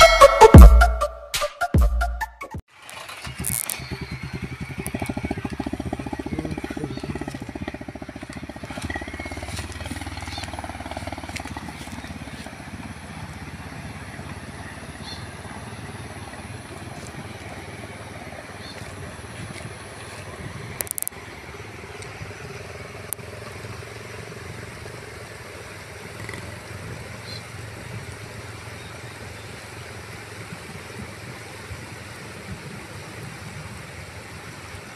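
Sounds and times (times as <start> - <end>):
small motorcycle engine: 2.7 - 34.9.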